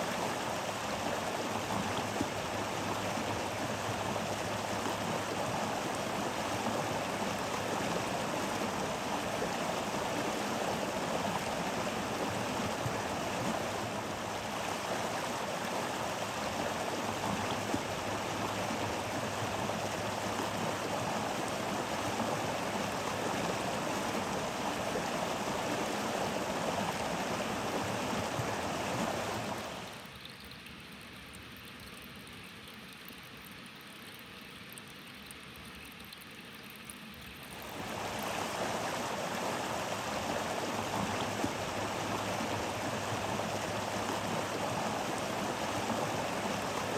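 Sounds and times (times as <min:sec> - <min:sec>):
stream water rushing: 0:00.0 - 0:30.1, 0:36.6 - 0:46.9.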